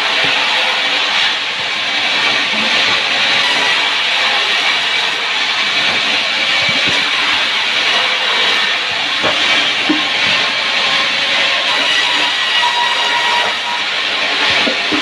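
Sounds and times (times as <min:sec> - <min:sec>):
loud steady hissing: 0:00.0 - 0:15.0.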